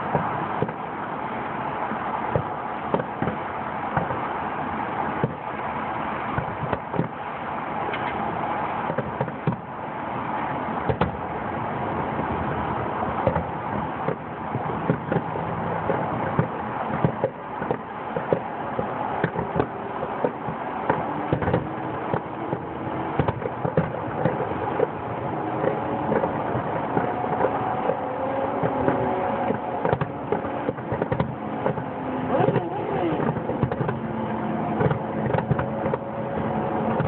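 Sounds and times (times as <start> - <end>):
fireworks bangs and pops: 0.0 - 37.0
steady background noise: 0.0 - 37.0.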